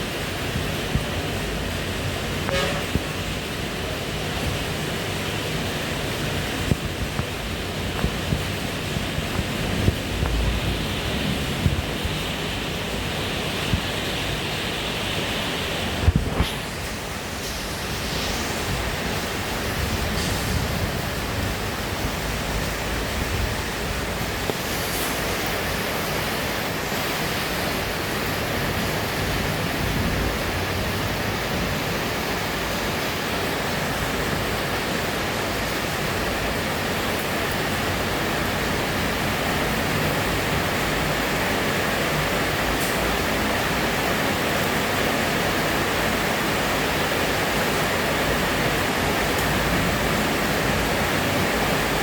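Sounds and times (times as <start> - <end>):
heavy rainfall: 0.0 - 52.0.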